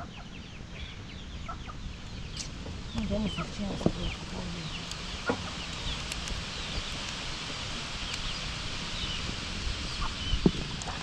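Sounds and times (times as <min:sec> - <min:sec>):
wind rustling: 0:00.0 - 0:11.0.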